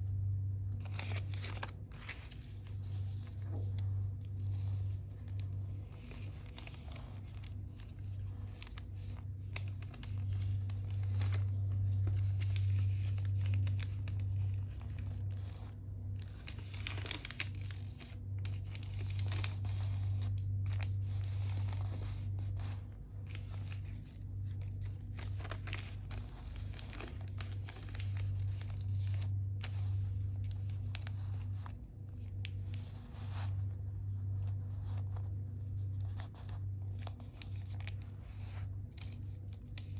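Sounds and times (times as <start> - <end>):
steady low hum: 0.0 - 39.9
paper crinkling and rustling: 0.7 - 39.9.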